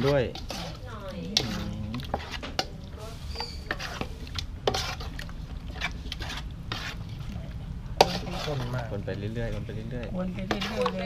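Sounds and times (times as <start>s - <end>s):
spoon scraping and clinking pot: 0.0s - 7.4s, 8.0s - 11.0s
metal spoon stirring in pot: 0.0s - 11.0s.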